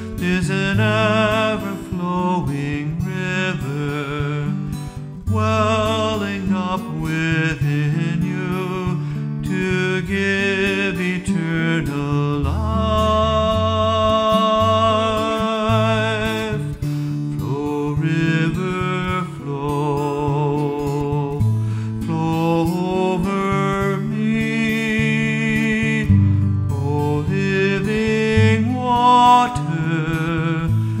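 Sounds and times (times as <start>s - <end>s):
acoustic guitar: 0.0s - 31.0s
man singing: 0.0s - 31.0s.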